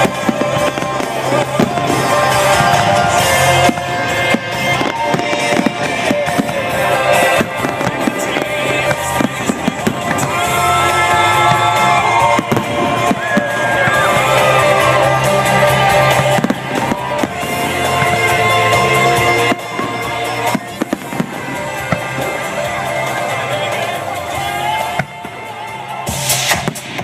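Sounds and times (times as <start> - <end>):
fireworks bursting and crackling: 0.0 - 27.0
loud music: 0.0 - 27.0.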